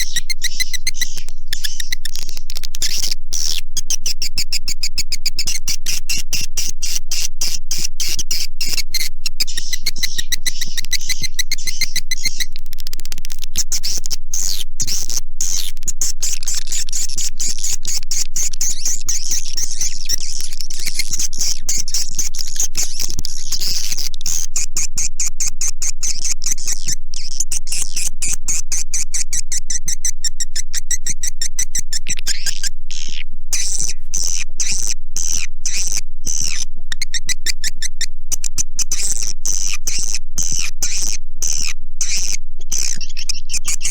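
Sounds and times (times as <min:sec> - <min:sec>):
swiftlets chirping and clicking: 0:00.0 - 0:24.5, 0:29.2 - 0:43.9.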